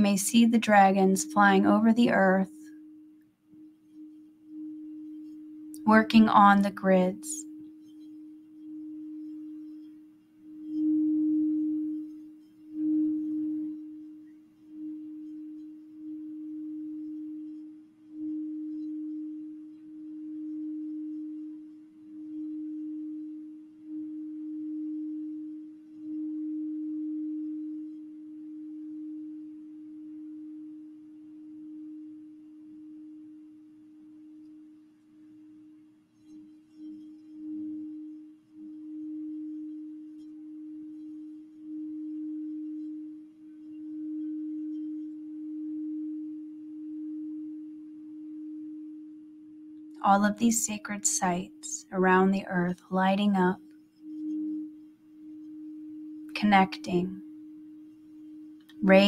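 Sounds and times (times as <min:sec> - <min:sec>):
singing bowl ringing: 0:00.0 - 0:59.0.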